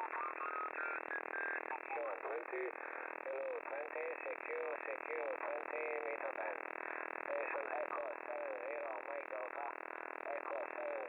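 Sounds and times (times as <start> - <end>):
radio hiss: 0.0 - 11.0.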